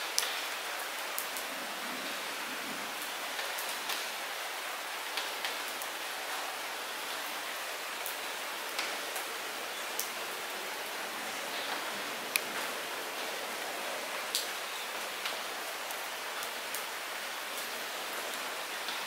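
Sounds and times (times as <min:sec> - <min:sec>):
light rain hissing: 0:00.0 - 0:19.0.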